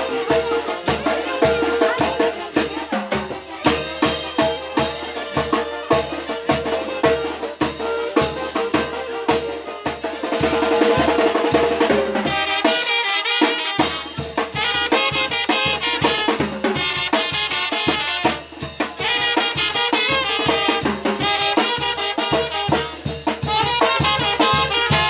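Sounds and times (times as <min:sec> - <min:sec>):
steady drum beat: 0:00.0 - 0:25.0.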